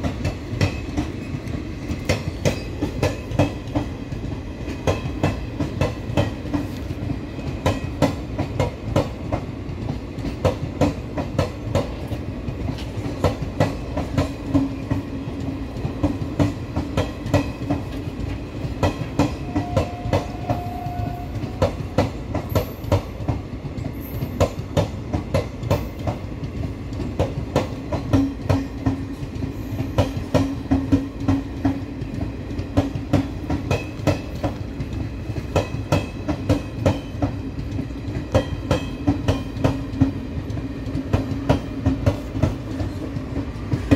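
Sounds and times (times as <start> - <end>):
train rumble and hum: 0.0 - 43.9
train wheels clicking over track: 0.0 - 43.9.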